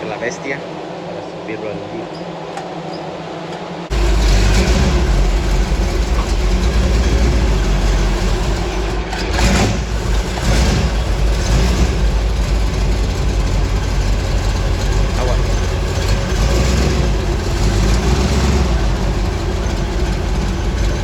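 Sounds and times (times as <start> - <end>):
loud car engine rumble: 3.8 - 21.0.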